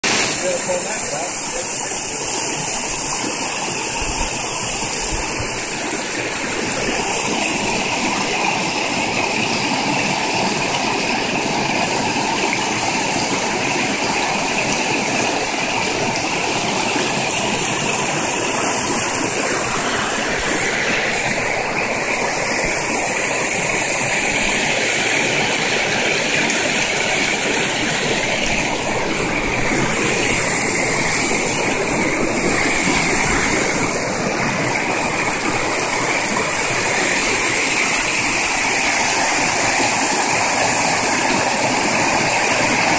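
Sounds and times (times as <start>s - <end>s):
creek rapids rushing over boulders: 0.0s - 42.9s.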